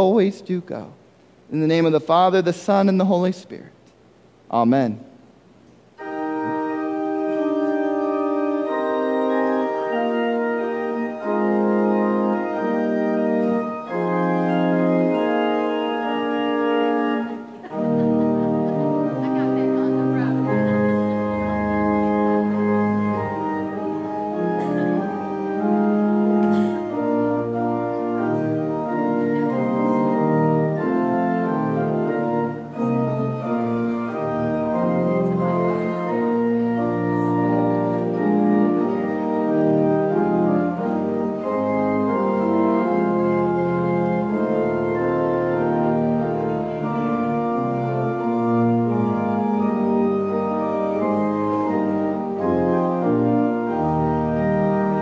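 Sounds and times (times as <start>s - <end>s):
organ playing sustained chords: 0.0s - 55.0s.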